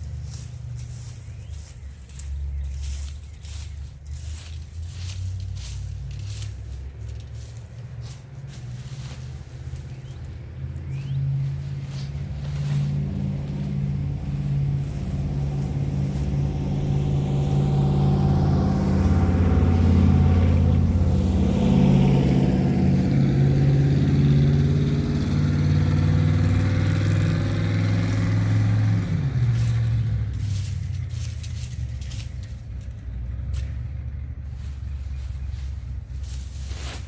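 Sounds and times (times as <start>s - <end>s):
heavy vehicle engine passing: 0.0s - 37.0s.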